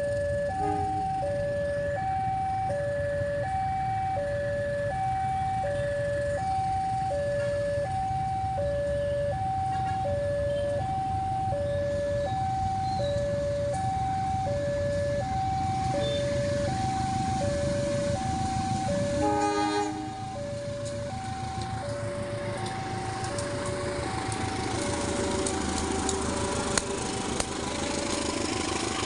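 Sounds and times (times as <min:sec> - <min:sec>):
two-tone crossing alarm: 0:00.0 - 0:25.2.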